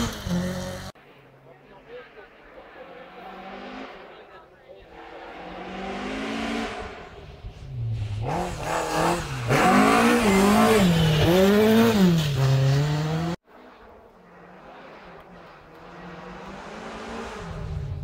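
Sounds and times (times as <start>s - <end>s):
rally car engine revving: 0.0s - 1.0s, 1.9s - 13.4s, 14.3s - 18.0s.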